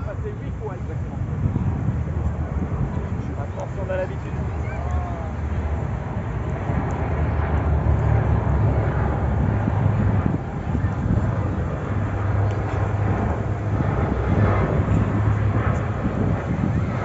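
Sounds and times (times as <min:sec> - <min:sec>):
low engine drone: 0:00.0 - 0:17.0
outdoor noise: 0:01.9 - 0:17.0.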